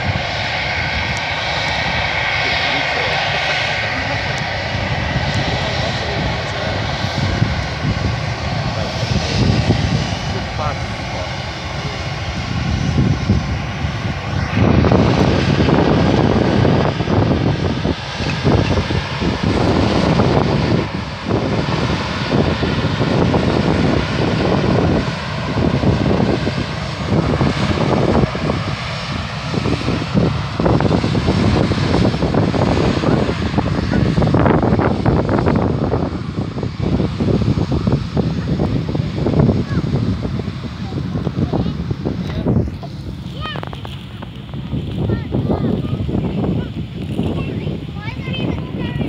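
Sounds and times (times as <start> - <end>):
faint engine whine: 0.0 - 49.0
jet engines rumbling: 0.0 - 49.0.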